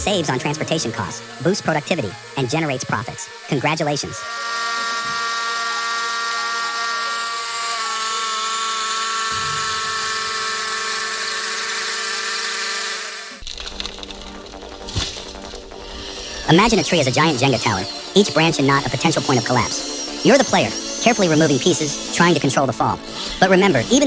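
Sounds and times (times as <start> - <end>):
power saw whining: 0.0 - 24.0.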